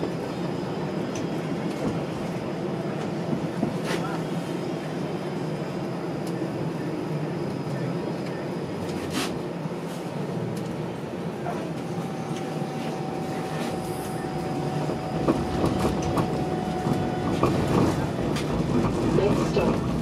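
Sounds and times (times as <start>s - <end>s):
streetcar hum: 0.0s - 20.0s.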